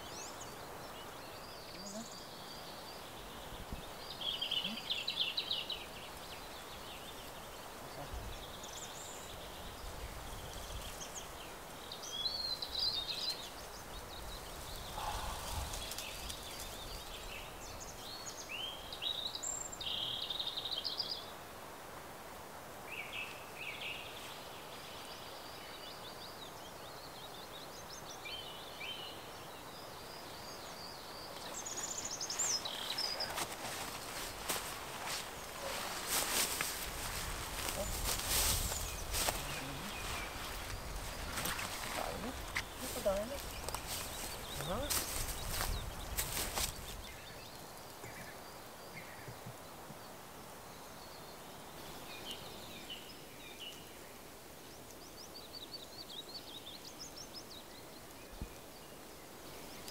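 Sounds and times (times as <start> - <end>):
songbirds singing: 0.0 - 21.8, 22.4 - 59.9
background hiss: 0.0 - 59.9.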